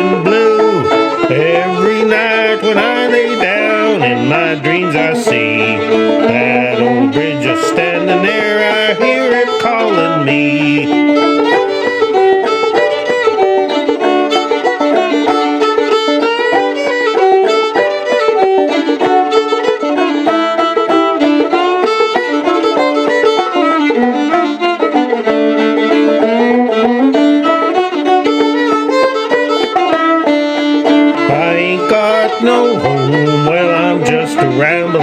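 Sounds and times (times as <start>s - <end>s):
banjo playing: 0.0s - 35.0s
fiddle playing blues melody: 0.0s - 35.0s.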